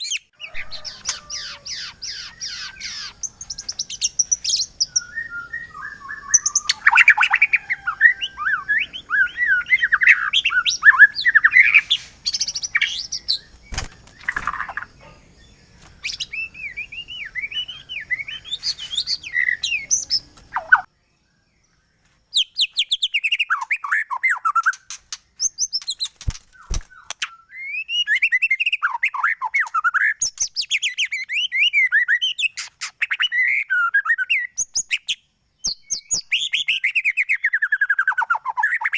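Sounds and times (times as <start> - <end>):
songbird whistles and trills: 0.0 - 21.0, 21.7 - 38.9.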